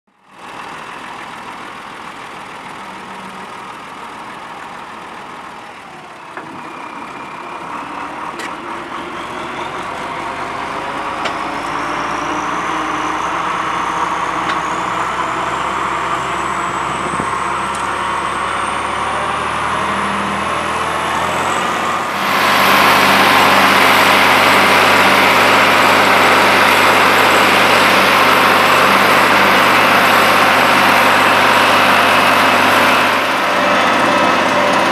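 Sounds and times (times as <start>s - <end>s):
tractor diesel engine under load: 0.1s - 34.9s.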